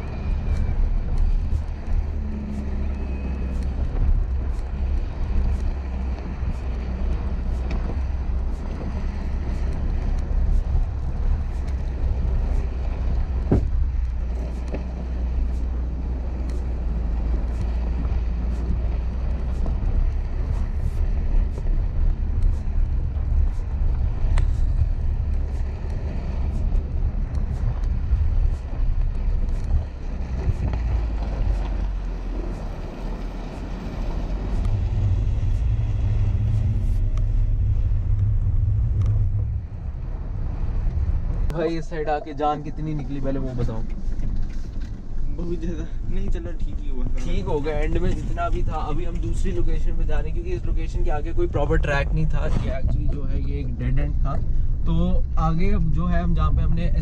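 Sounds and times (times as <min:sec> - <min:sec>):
car engine rumbling: 0:00.0 - 0:57.0.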